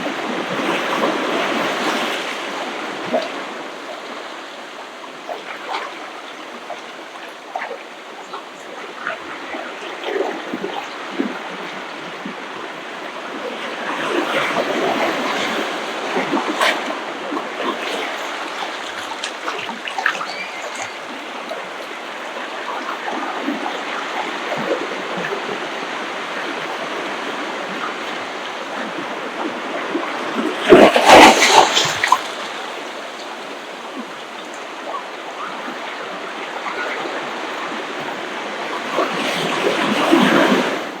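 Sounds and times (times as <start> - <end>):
ocean surf washing on beach: 0.0 - 41.0.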